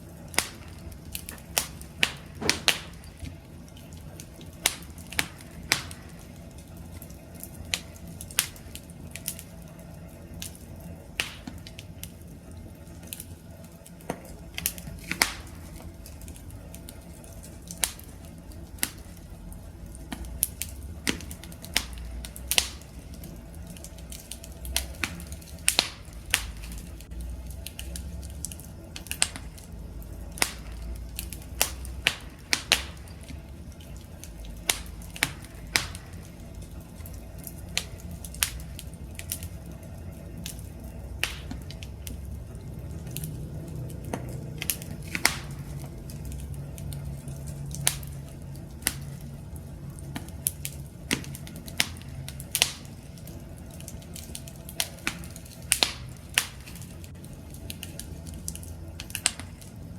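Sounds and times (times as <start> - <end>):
wood campfire crackling: 0.0 - 59.9.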